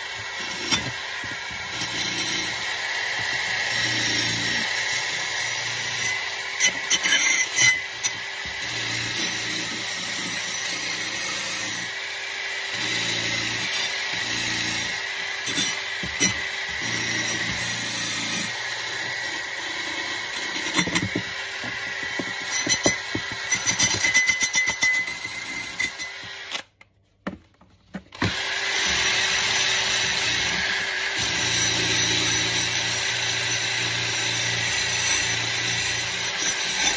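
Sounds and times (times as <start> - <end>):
drill wire brush whirring: 0.0 - 26.8, 28.1 - 36.9.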